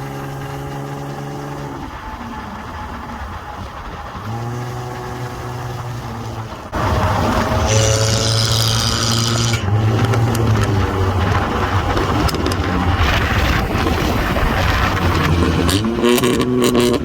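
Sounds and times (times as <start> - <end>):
hiss: 0.0 - 16.4
car exhaust drone: 0.0 - 17.0.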